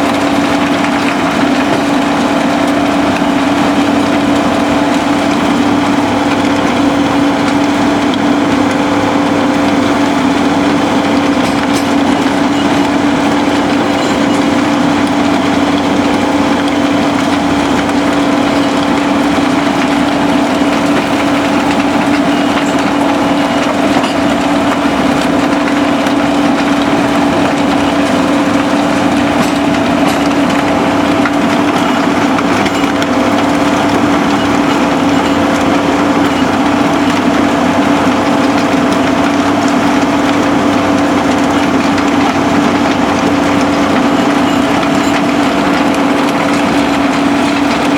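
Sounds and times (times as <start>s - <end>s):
diesel engine drone: 0.0s - 47.9s
rubble rattling in crusher: 0.0s - 47.9s.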